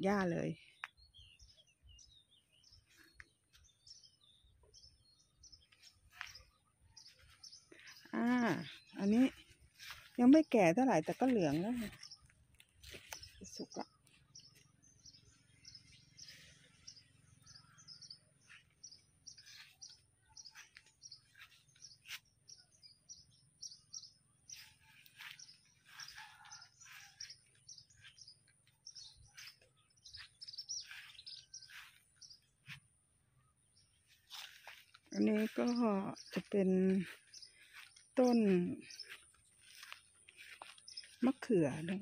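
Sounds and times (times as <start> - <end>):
songbirds chirping: 0.0 - 42.0.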